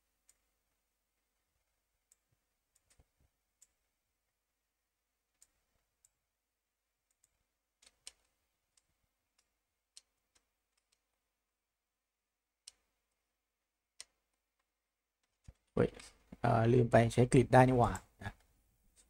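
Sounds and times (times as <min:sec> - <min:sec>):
computer mouse and keys clicking: 0:00.2 - 0:04.6, 0:05.2 - 0:11.4, 0:12.4 - 0:16.5, 0:17.5 - 0:19.0.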